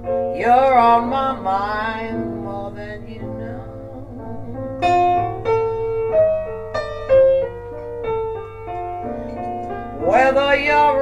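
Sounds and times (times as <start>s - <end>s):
piano notes: 0.0s - 11.0s.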